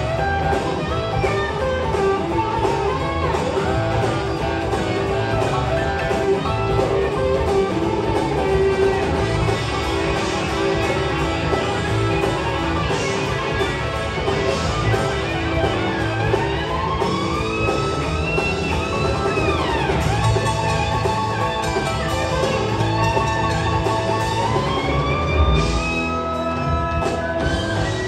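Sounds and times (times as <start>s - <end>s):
bass: 0.0s - 28.0s
drums: 0.0s - 28.0s
electric guitar lead bending notes: 0.0s - 28.0s
keyboards: 0.0s - 28.0s.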